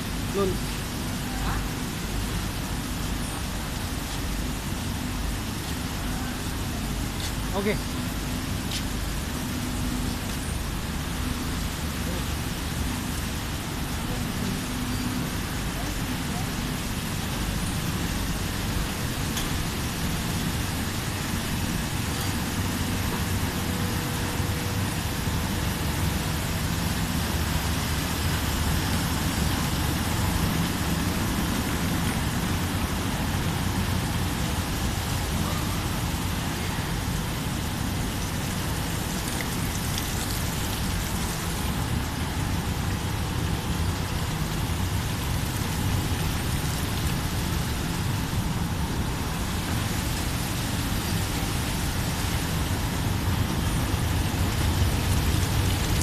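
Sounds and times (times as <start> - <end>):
water splashing and hissing: 0.0 - 56.0.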